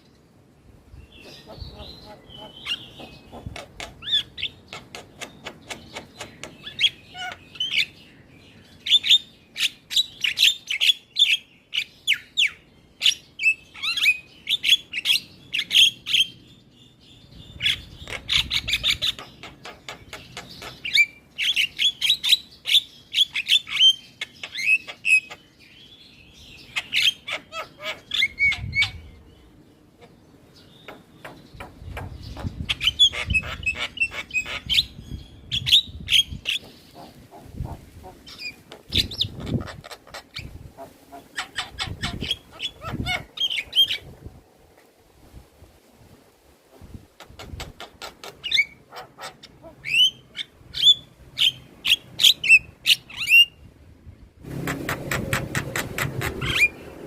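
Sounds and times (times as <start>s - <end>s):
myna bird singing: 0.0s - 44.2s, 47.2s - 53.7s, 54.5s - 57.0s.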